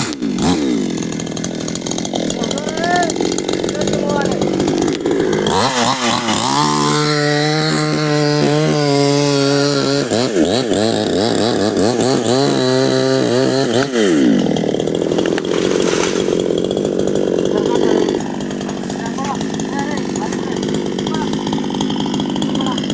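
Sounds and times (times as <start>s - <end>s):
chainsaw engine revving: 0.0s - 22.9s.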